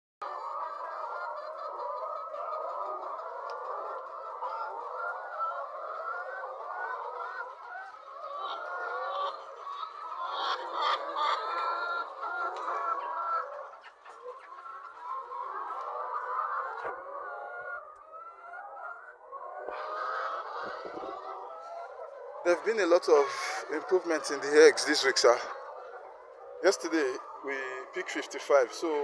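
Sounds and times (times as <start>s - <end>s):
hens clucking: 0.2s - 29.0s
sharp hen calls: 0.2s - 29.0s.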